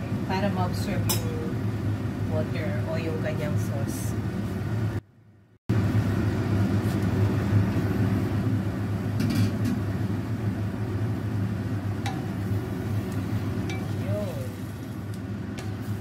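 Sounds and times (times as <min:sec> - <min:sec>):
kitchen fan humming: 0:00.0 - 0:05.1, 0:05.7 - 0:16.0.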